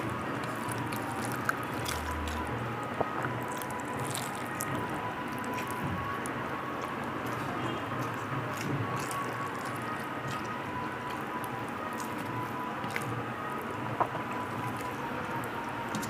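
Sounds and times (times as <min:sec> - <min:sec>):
person chewing: 0:00.0 - 0:13.2
fingers squishing wet rice: 0:00.0 - 0:16.0.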